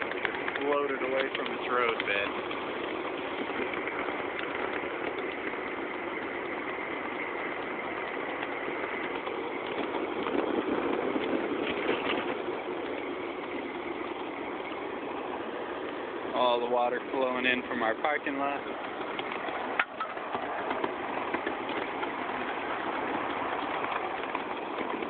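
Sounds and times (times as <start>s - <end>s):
small vehicle running over grass: 0.0s - 25.0s.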